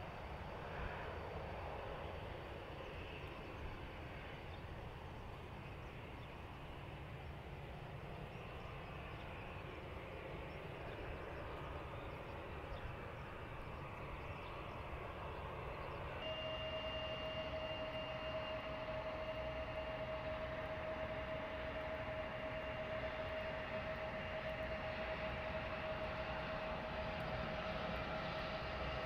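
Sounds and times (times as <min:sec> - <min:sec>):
distant jet engines rumbling: 0:00.0 - 0:29.0
steady pure tone: 0:00.0 - 0:29.0.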